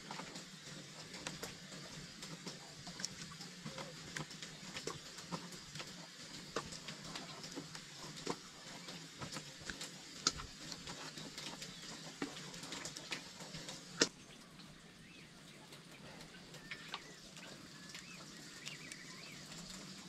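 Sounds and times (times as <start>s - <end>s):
birds chirping: 0.2s - 20.0s.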